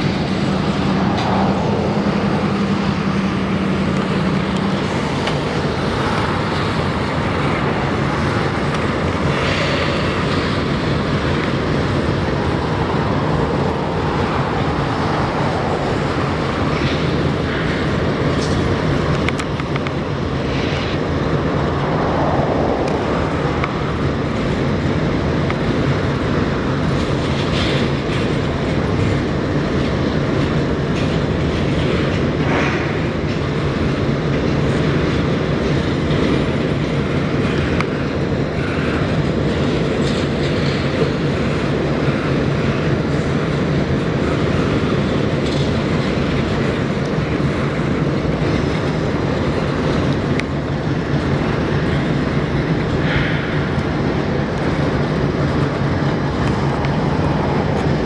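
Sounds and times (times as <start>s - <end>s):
constant low drone: 0.0s - 58.0s
train wheels rumbling on rails: 0.0s - 58.0s.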